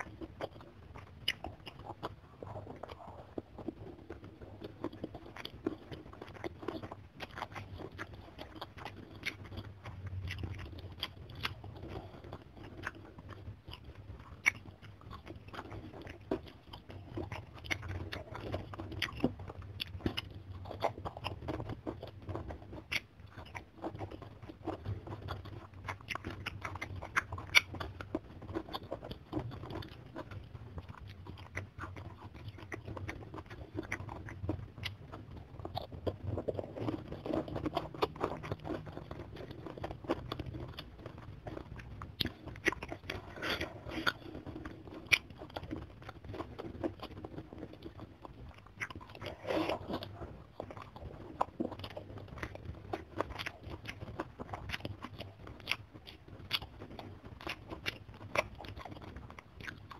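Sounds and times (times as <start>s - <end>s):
chewing crunchy food: 0.0s - 59.9s.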